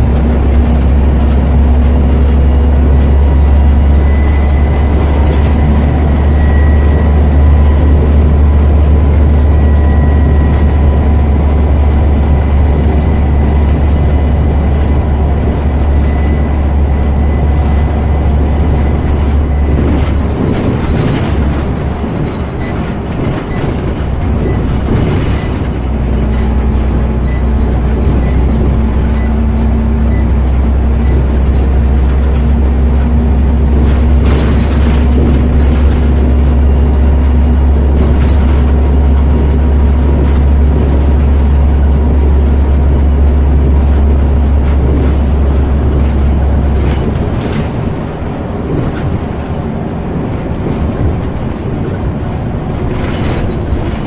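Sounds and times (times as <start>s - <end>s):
bus diesel engine droning: 0.0s - 54.0s
road noise: 0.0s - 54.0s.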